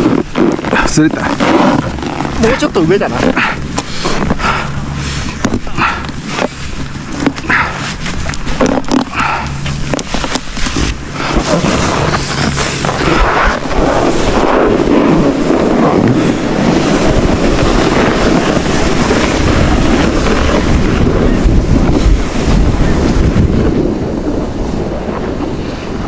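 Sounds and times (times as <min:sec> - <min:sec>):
snowboard scraping over snow: 0:00.0 - 0:26.0
wind rushing over microphone: 0:00.0 - 0:26.0.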